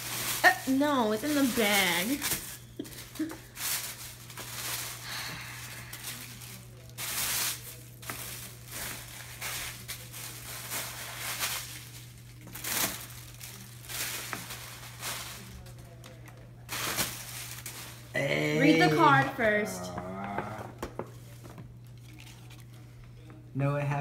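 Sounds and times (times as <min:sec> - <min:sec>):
tissue paper rustling: 0:00.0 - 0:19.5
steady low hum: 0:00.0 - 0:24.0.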